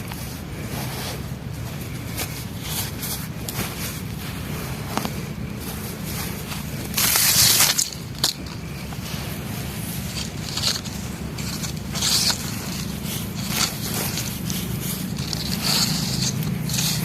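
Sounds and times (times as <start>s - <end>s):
steady low hum: 0.0s - 17.0s
dry brittle material crunching: 1.8s - 17.0s.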